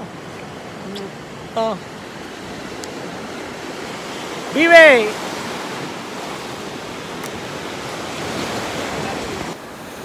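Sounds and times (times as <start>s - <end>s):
waves washing onto beach: 0.0s - 10.0s.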